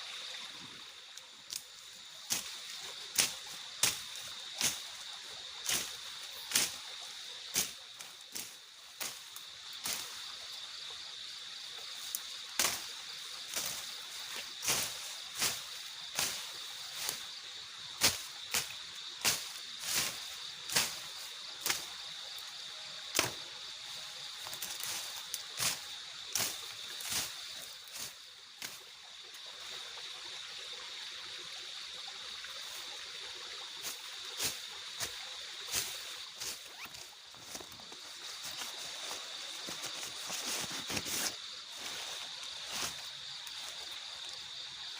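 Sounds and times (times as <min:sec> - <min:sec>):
high-pitched insect chorus: 0:00.0 - 0:44.9.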